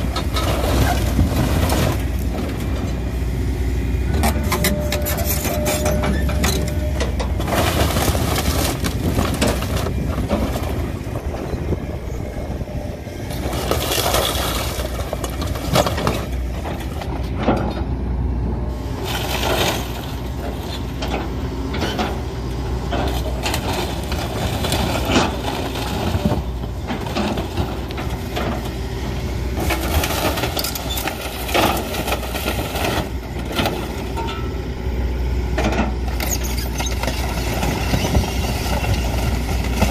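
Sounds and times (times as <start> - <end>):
wood and metal crunching: 0.0 - 3.2, 4.1 - 17.9, 19.0 - 34.5, 35.5 - 39.9
diesel engine running: 0.0 - 39.9.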